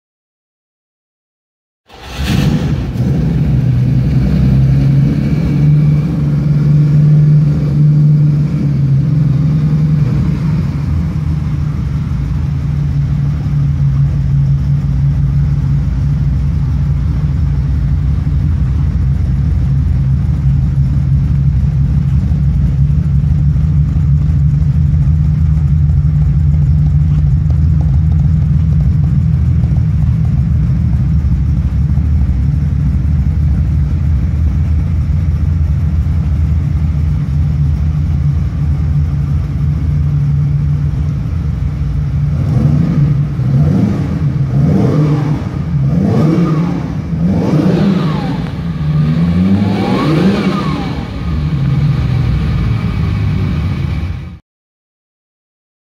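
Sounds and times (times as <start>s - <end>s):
car engine idling: 1.9s - 54.4s.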